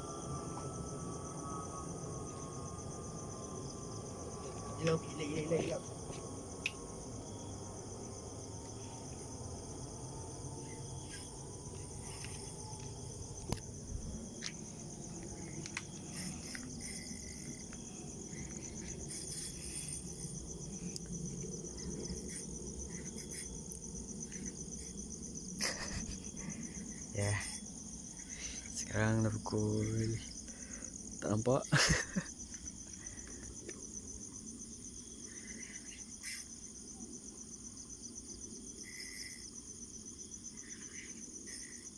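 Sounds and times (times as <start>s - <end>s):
crickets trilling: 0.0s - 41.9s.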